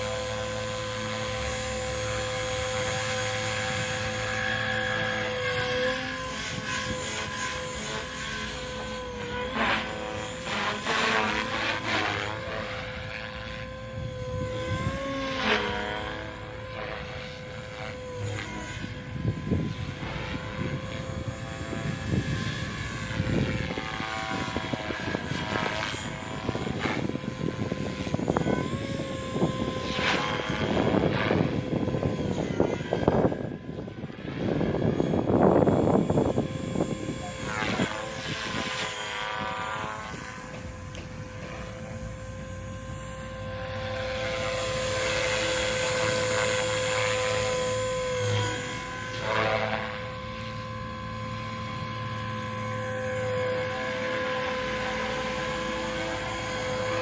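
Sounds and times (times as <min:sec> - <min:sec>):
propeller aircraft engine droning: 0:00.0 - 0:57.0
wind on microphone: 0:00.0 - 0:57.0.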